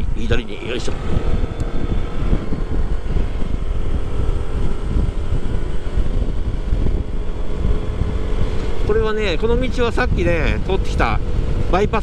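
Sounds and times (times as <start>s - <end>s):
scooter engine drone: 0.0s - 12.0s
wind buffeting microphone: 0.0s - 12.0s.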